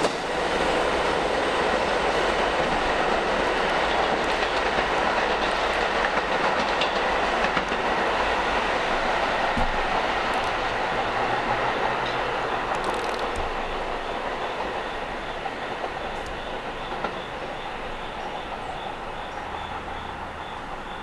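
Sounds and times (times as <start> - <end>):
subway train clickety-clack: 0.0 - 21.0.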